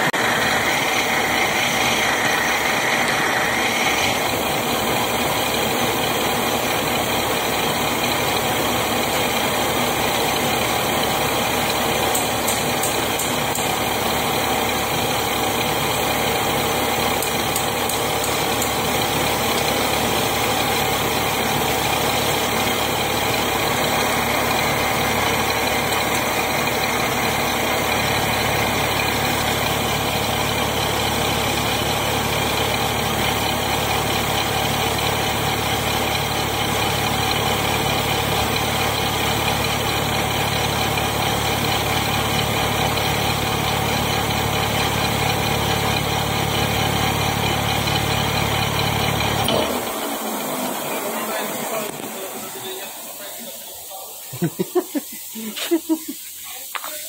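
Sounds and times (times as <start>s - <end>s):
metal lathe running: 0.0s - 53.9s.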